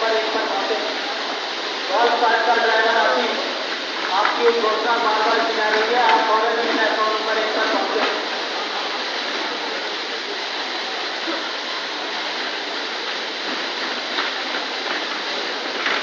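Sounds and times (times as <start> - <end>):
water gushing and splashing: 0.0 - 16.0.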